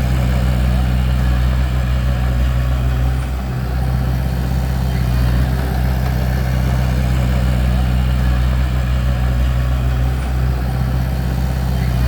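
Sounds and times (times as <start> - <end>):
bulldozer engine humming: 0.0 - 12.0.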